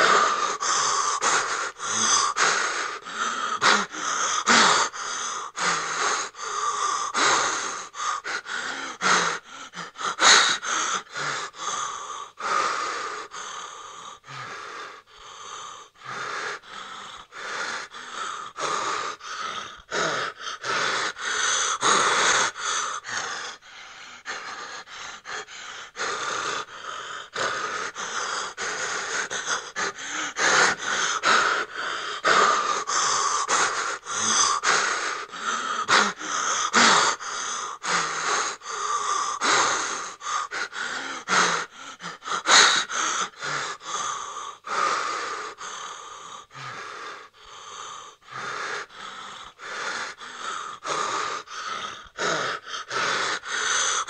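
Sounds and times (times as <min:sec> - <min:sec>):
person gasping breaths: 0:00.0 - 0:54.0.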